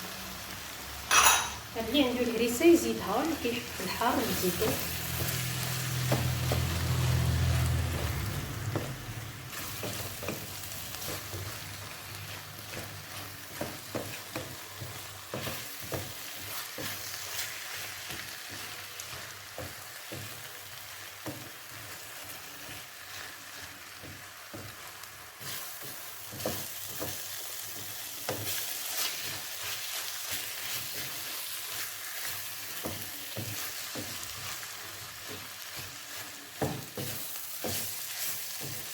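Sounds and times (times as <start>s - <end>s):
food sizzling in a frying pan: 0.0s - 38.9s
spatula scraping a pan: 3.7s - 20.6s, 21.2s - 38.9s.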